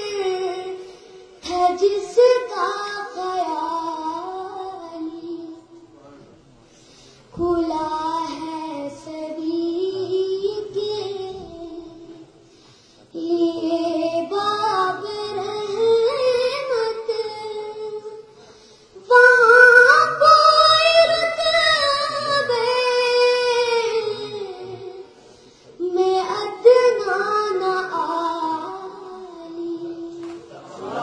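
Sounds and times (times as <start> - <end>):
boy singing unaccompanied: 0.0 - 5.8, 7.3 - 12.3, 13.1 - 18.3, 19.1 - 25.1, 25.8 - 30.2.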